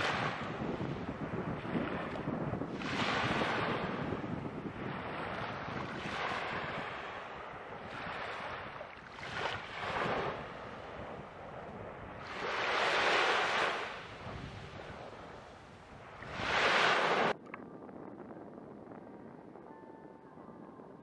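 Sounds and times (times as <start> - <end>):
small waves breaking on beach: 0.0 - 17.4.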